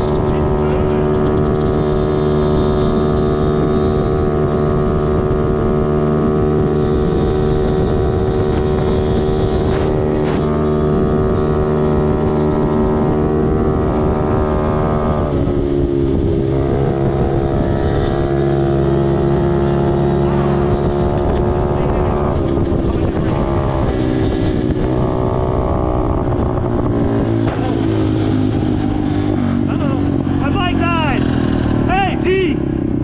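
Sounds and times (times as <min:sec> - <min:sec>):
wind on microphone: 0:00.0 - 0:31.9
dirt bike engine running: 0:00.0 - 0:33.0.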